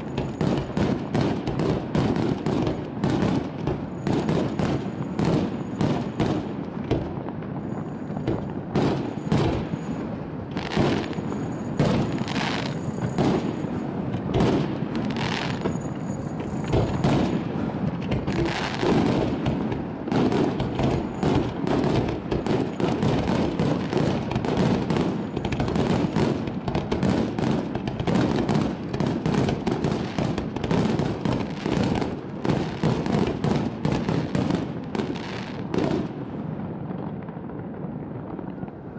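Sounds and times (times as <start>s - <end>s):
firework shells bursting: 0.0s - 36.2s.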